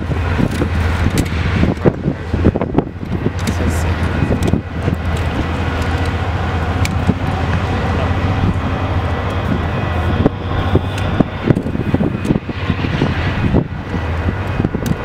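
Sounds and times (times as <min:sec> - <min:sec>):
low hum: 0:00.0 - 0:15.0
train wheels rumbling on rails: 0:00.0 - 0:15.0.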